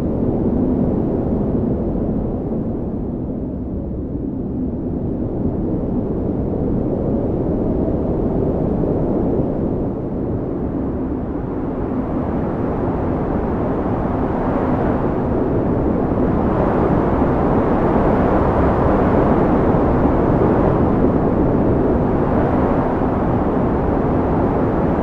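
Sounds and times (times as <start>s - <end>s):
strong wind blowing: 0.0s - 25.0s.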